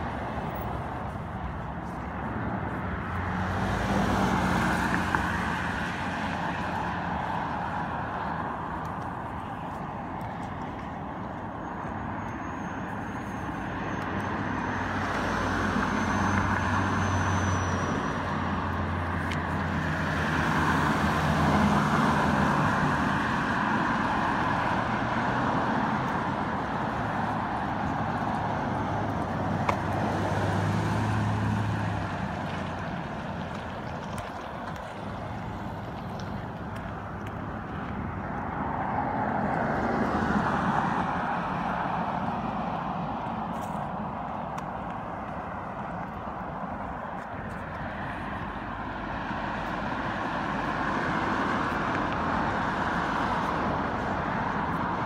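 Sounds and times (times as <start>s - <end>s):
cars and trucks passing: 0.0s - 55.0s.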